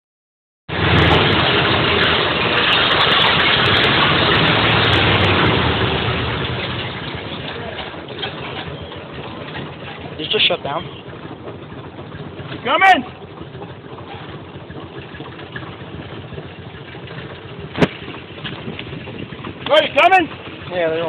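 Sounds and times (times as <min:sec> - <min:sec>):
fire engine running: 0:00.7 - 0:21.0.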